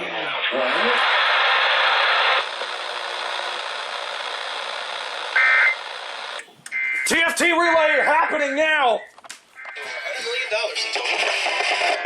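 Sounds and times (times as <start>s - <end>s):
radio static hiss: 0.0s - 8.6s, 9.5s - 12.0s.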